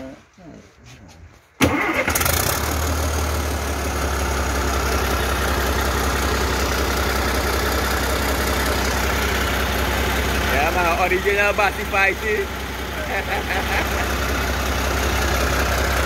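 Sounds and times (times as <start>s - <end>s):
diesel engine starting and running: 1.6s - 16.0s.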